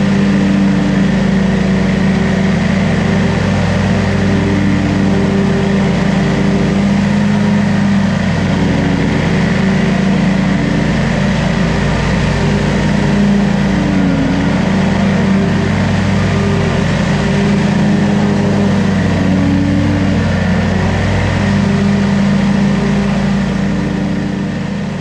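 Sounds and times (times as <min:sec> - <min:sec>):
blades cutting grass: 0:00.0 - 0:25.0
mower engine running: 0:00.0 - 0:25.0.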